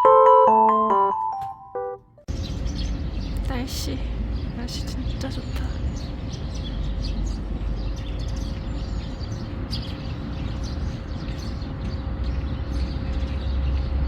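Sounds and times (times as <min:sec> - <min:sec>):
small birds chirping: 0:02.3 - 0:14.0.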